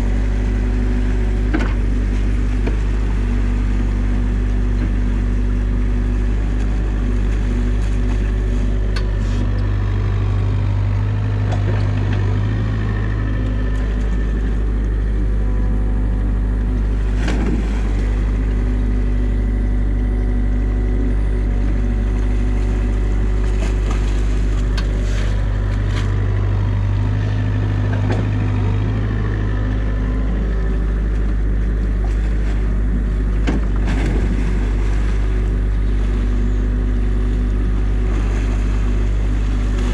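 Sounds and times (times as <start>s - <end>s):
excavator diesel engine running: 0.0s - 39.9s
hydraulics working: 0.0s - 39.9s.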